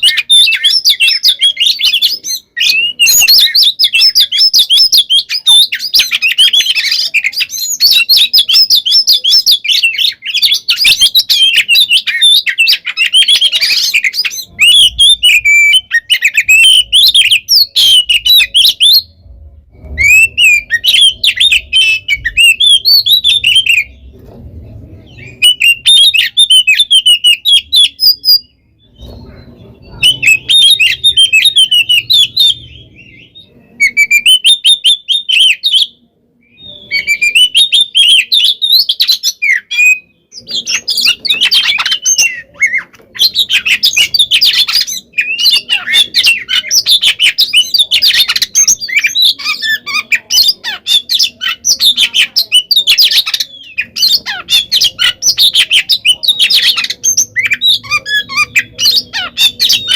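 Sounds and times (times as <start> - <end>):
bird singing chirps and whistles: 0.0 - 24.3, 25.0 - 59.9.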